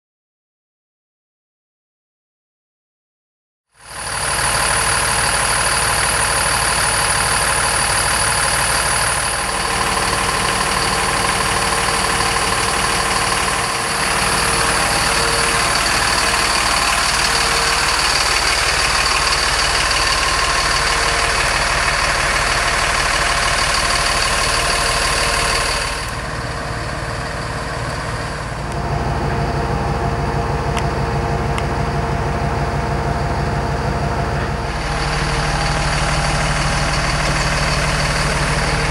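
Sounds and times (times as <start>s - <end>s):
truck diesel engine idling: 3.8s - 38.9s
steady high whine: 3.9s - 38.9s.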